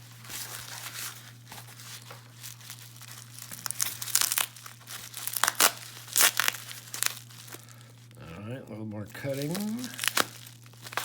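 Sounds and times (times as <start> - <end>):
packing material crinkling: 0.0 - 8.2, 9.1 - 11.0.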